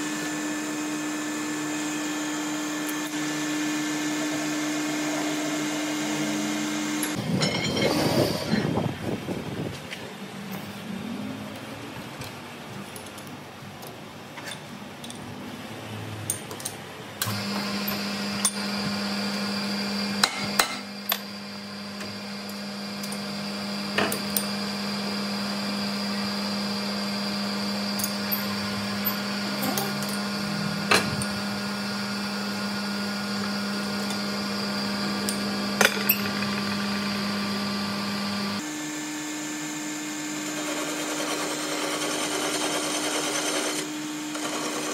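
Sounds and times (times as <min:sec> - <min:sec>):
lathe humming and whining: 0:00.0 - 0:09.0, 0:17.2 - 0:44.9.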